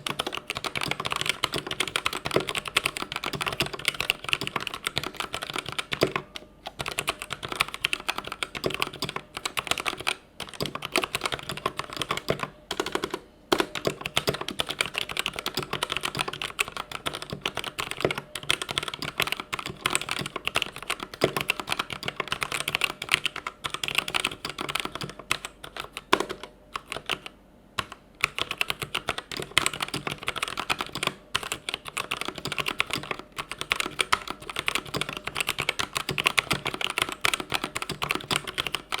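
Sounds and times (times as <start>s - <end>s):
mechanical keyboard typing: 0.0s - 39.0s.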